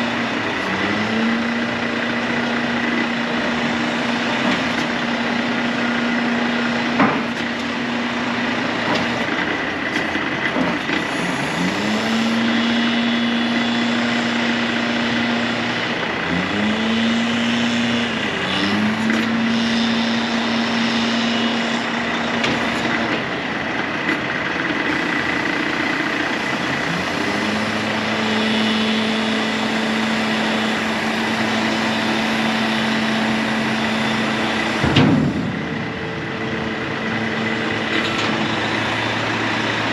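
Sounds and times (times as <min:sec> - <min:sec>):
heavy truck engine humming: 0:00.0 - 0:39.9.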